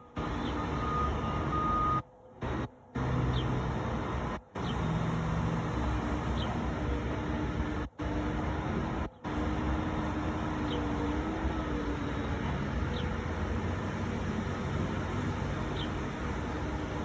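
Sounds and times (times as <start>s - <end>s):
low rumbling outdoor noise: 0.0s - 17.0s.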